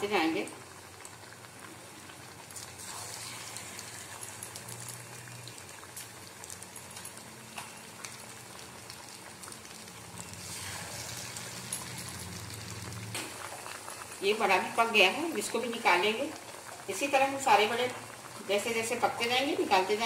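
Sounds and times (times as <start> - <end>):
hot oil sizzling and crackling: 0.0 - 20.0.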